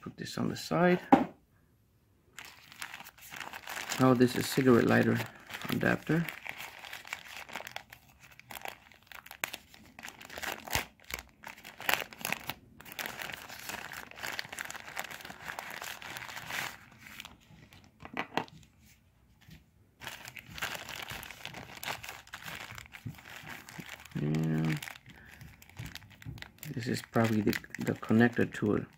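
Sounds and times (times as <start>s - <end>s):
plastic bag crinkling: 2.3s - 18.0s, 20.0s - 28.9s.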